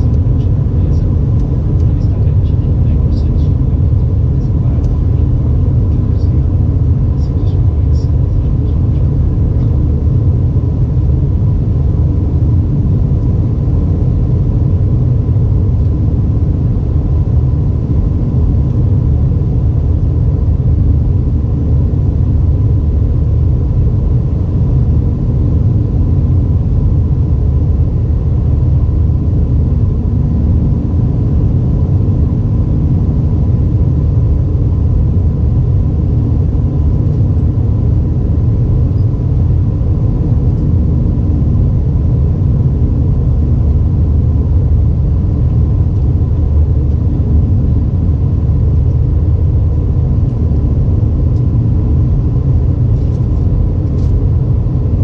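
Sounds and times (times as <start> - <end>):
airplane cabin engine drone: 0.0 - 55.0
faint steady whine: 0.0 - 55.0.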